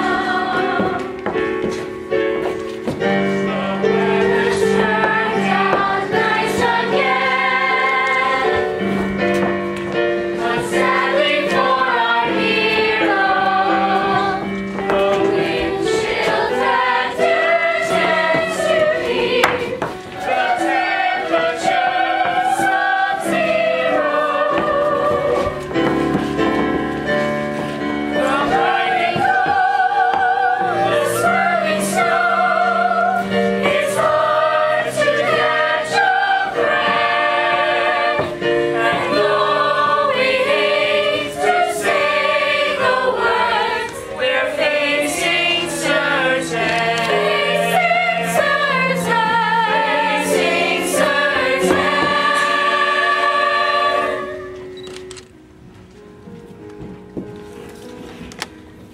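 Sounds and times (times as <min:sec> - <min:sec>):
choir singing: 0:00.0 - 0:01.6, 0:03.0 - 0:54.8
instrumental accompaniment: 0:00.0 - 0:58.9.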